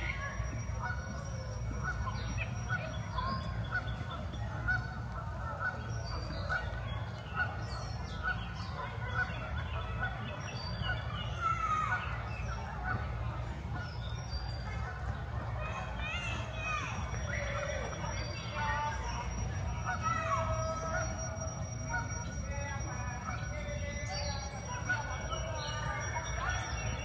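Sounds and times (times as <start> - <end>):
geese honking: 0.0 - 27.0
small birds chirping: 0.0 - 27.0.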